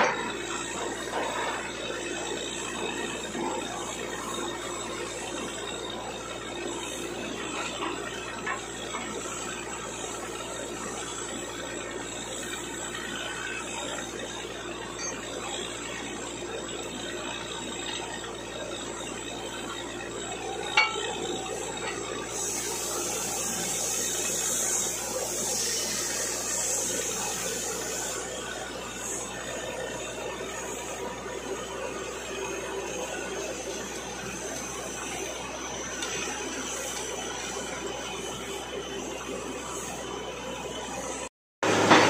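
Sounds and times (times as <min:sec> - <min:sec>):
mechanical hum: 0:00.0 - 0:42.0.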